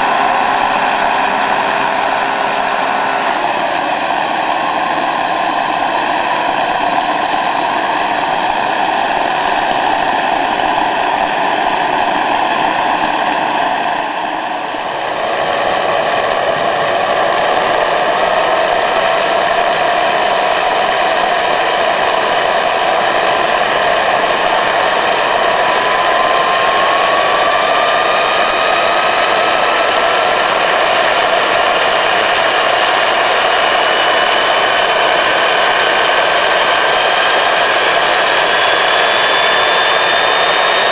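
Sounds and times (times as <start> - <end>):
gas turbine engine whining: 0.0 - 40.9.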